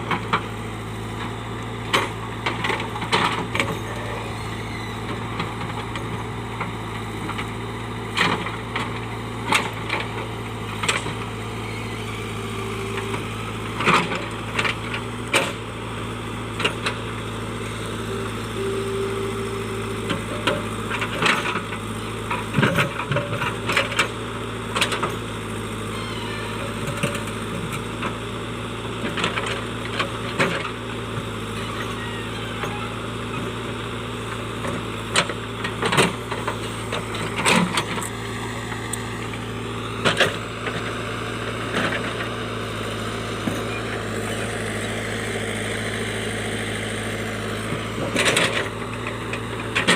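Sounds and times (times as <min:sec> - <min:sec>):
digger diesel engine running: 0:00.0 - 0:49.9.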